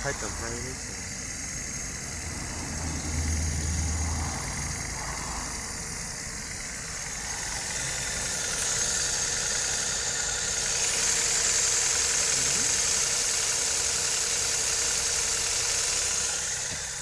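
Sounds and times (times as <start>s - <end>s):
car engine idling: 0.0s - 17.0s
engine knocking: 0.0s - 17.0s.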